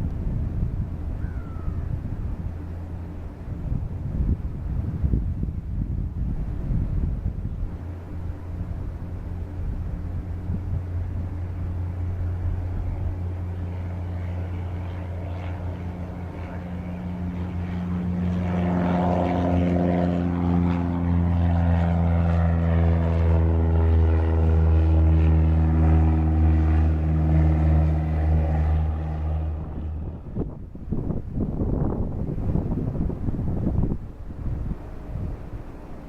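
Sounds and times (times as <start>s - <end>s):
propeller aircraft engine droning: 0.0s - 36.0s.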